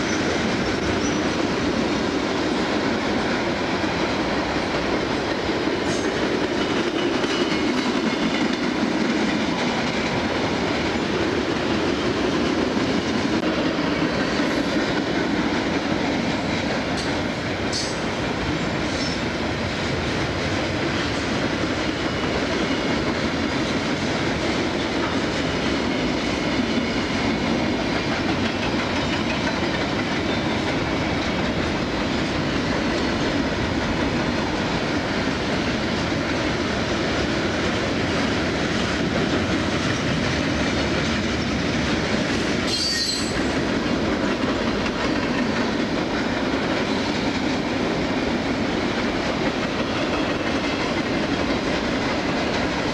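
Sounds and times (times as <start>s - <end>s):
freight train rolling on rails: 0.0s - 52.9s.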